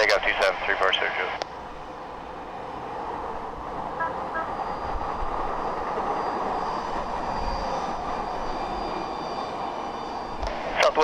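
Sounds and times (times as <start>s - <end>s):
airplane engines at takeoff power: 0.0s - 11.0s.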